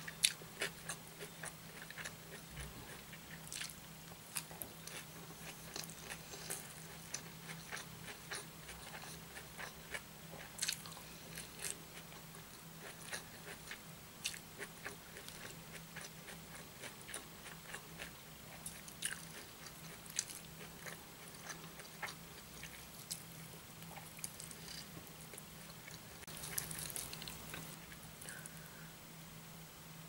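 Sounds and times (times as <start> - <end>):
chewing and lip smacking: 0.1 - 28.5.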